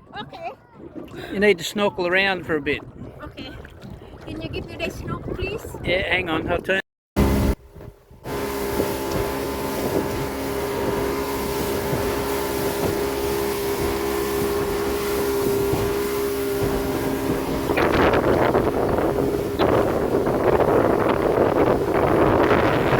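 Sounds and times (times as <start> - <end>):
boat motor running: 0.0 - 22.9
wind buffeting microphone: 2.4 - 22.9.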